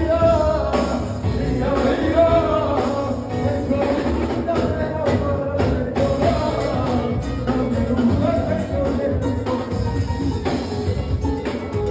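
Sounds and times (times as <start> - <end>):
man singing into a microphone: 0.0 - 10.1
congas: 0.0 - 11.9
drum kit with cymbals: 0.0 - 11.9.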